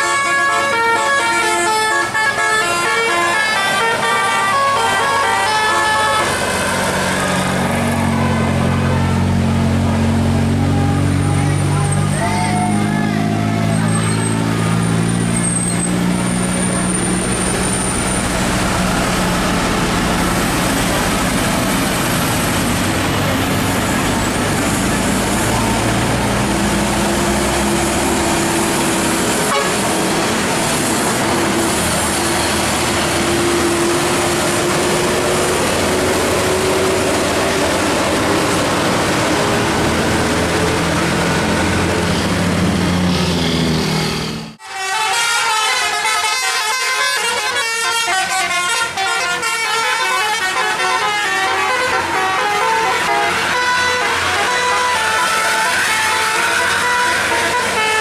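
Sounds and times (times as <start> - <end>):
heavy bus engine running: 0.0 - 58.0
road traffic noise: 0.0 - 58.0.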